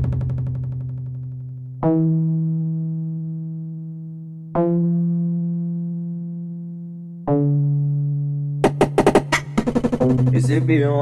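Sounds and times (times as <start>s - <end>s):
synthesizer keyboard notes: 1.7s - 11.0s.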